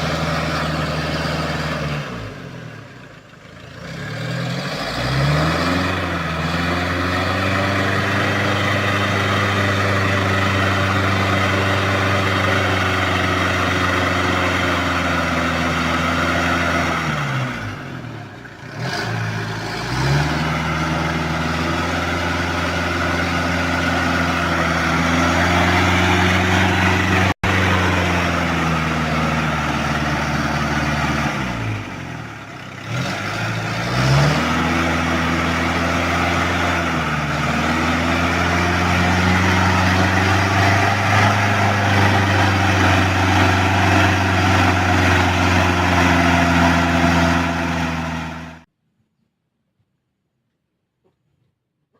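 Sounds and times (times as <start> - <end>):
vehicle engine revving hard: 0.0 - 48.7.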